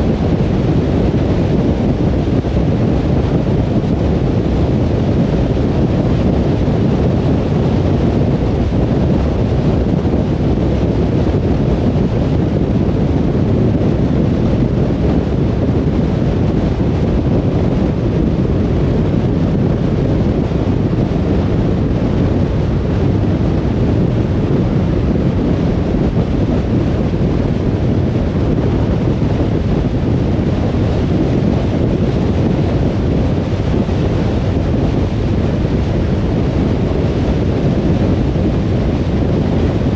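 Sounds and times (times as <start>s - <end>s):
car tyre and wind rumble: 0.0s - 39.9s.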